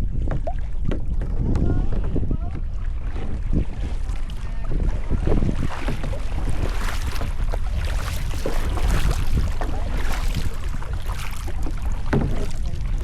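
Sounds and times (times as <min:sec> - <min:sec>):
wind rumbling on microphone: 0:00.0 - 0:13.0
paddle water splashes and drips: 0:00.1 - 0:01.3, 0:02.8 - 0:13.0.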